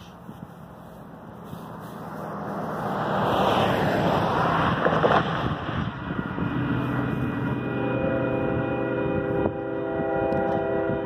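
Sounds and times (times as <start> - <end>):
vehicle passing on highway: 0.0 - 11.0.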